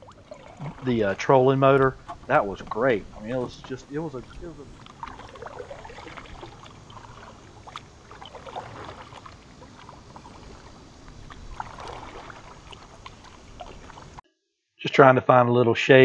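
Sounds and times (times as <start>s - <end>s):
paddle strokes in water: 0.0s - 14.2s
water splashing: 0.0s - 14.2s.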